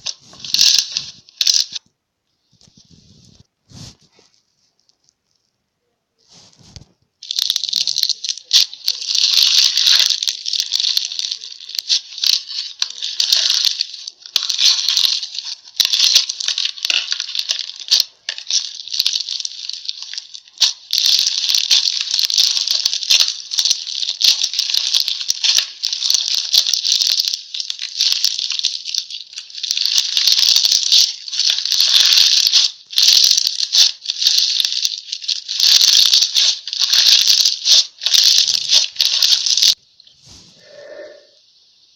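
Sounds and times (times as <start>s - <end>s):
slime squishing and crackling: 0.0s - 1.8s, 6.3s - 41.3s.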